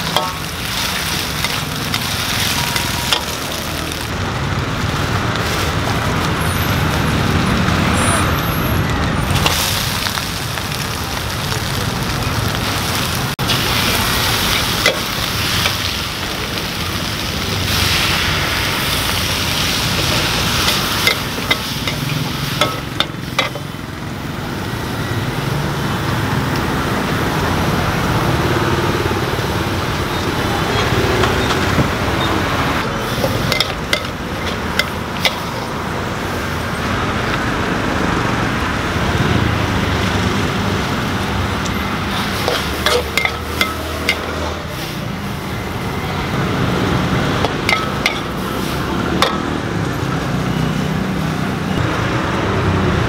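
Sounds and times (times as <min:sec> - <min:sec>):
road traffic: 0:00.0 - 0:53.0.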